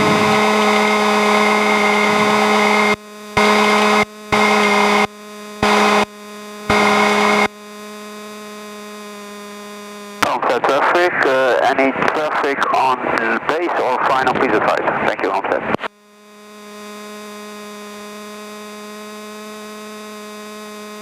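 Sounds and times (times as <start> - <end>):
steady droning hum: 0.0 - 21.0
radio static and hiss: 0.1 - 19.5.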